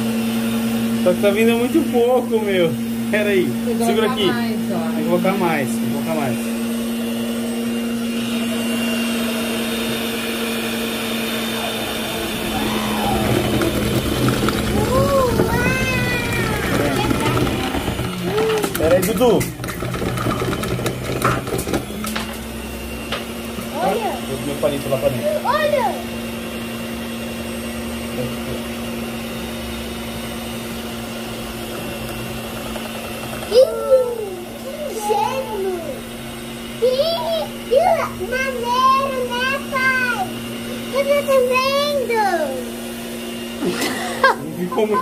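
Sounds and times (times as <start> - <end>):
stand mixer motor humming: 0.0 - 45.0.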